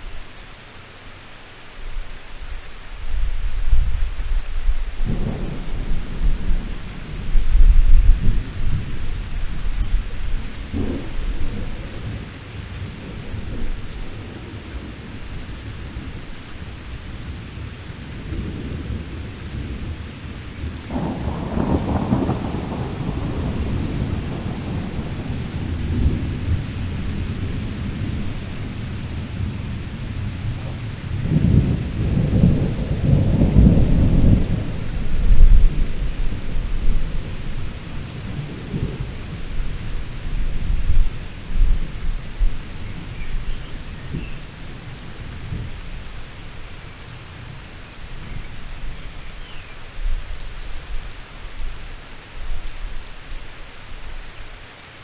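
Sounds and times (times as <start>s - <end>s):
heavy rain falling: 0.0s - 55.0s
rolling thunder: 3.1s - 49.2s.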